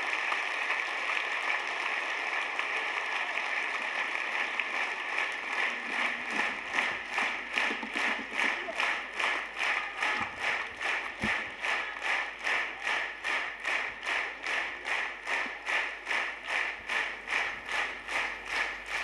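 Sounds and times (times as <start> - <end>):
audience clapping in unison: 0.0 - 19.0.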